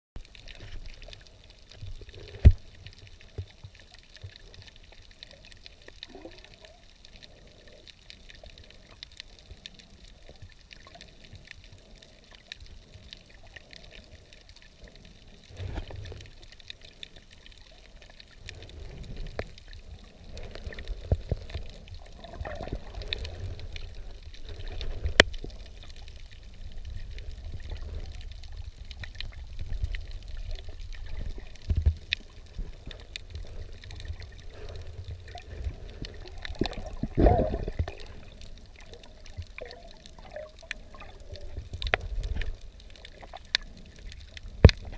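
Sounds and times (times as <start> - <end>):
water sloshing and gurgling: 0.2 - 44.9.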